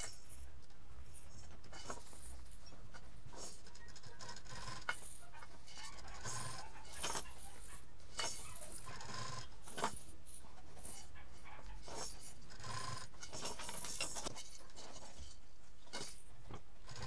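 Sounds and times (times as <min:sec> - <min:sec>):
plastic toys rattling and clicking: 0:00.0 - 0:17.0.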